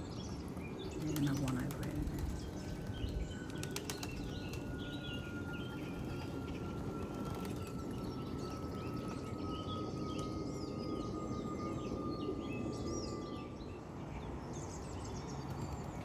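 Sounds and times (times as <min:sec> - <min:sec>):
small birds chirping: 0:00.0 - 0:13.3.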